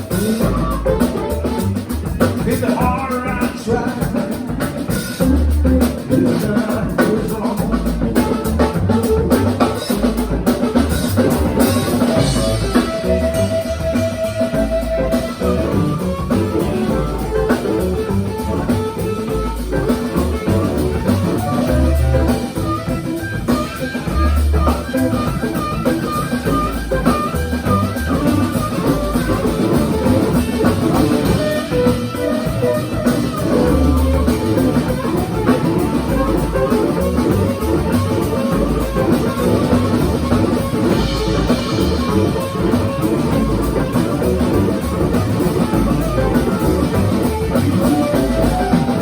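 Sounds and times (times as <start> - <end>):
blues guitar: 0.0 - 49.0
drum kit: 0.0 - 49.0.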